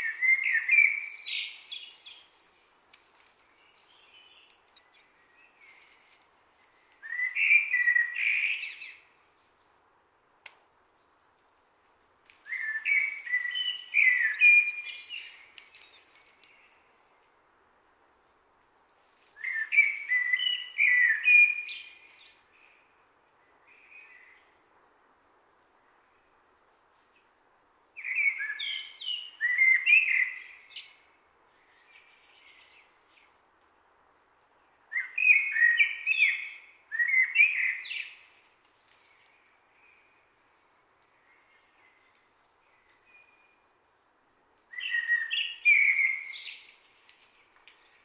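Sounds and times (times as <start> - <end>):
songbird singing: 0.0 - 9.9, 10.8 - 17.3, 19.2 - 24.7, 25.8 - 33.5, 34.5 - 48.0.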